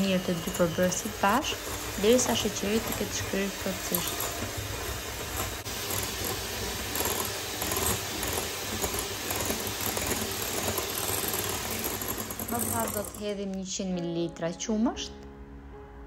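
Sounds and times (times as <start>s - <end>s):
electric hand mixer whisking: 0.0s - 13.5s.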